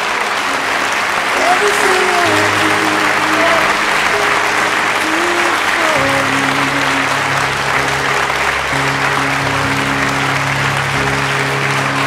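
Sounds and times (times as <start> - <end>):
crowd applause: 0.0 - 12.0
music with long low notes: 0.0 - 12.0.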